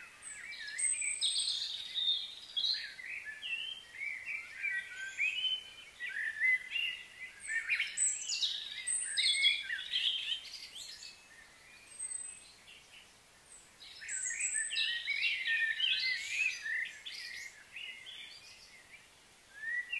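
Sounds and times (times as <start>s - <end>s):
songbirds twittering: 0.0s - 19.9s.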